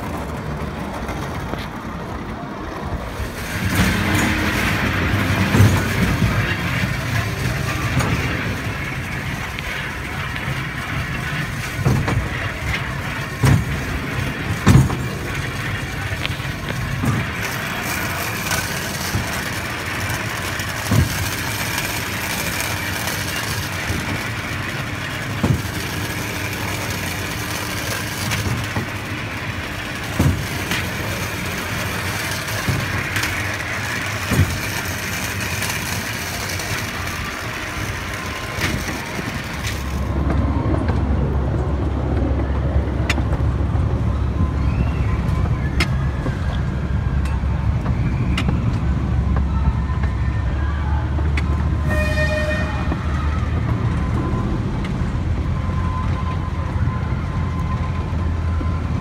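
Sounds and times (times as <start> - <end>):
miniature train rumbling on track: 0.0 - 59.0.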